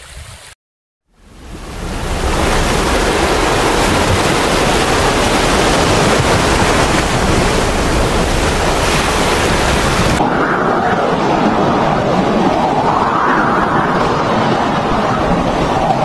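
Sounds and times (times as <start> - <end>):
avalanche rushing: 1.4 - 16.0.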